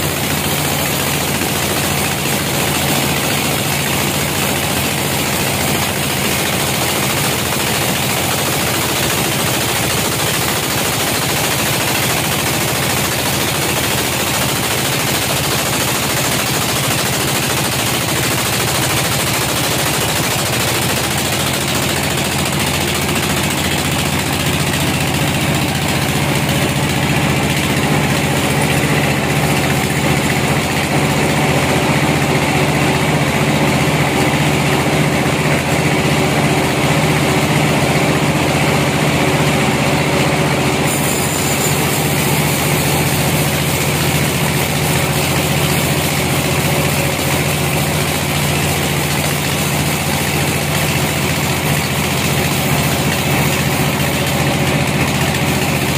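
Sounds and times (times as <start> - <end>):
band saw cutting log: 0.0 - 55.9.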